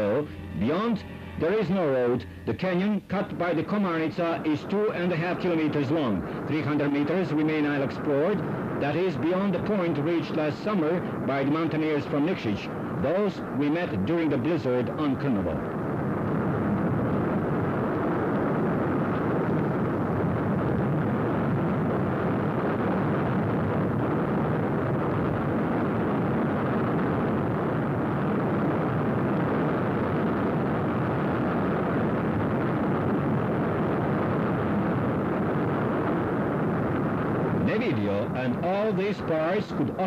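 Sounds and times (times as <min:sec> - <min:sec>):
steady rushing noise: 0:00.0 - 0:40.0.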